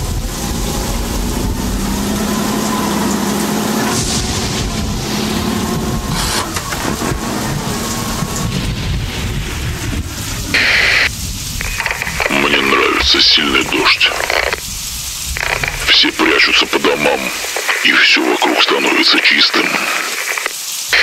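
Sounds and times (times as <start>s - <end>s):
truck engine droning: 0.0s - 17.5s
rain falling: 0.0s - 21.0s.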